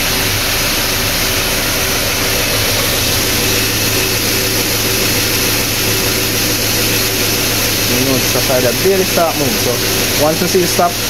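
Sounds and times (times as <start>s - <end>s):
air conditioning rushing noise: 0.0s - 11.0s
car engine idling: 0.0s - 11.0s.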